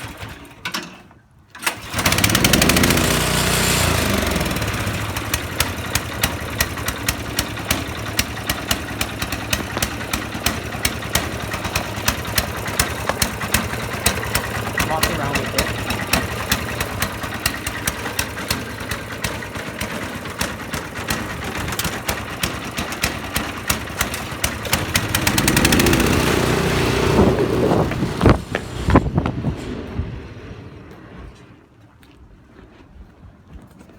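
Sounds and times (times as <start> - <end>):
small engine misfiring: 0.0 - 31.7
engine pops and bangs: 1.6 - 31.6.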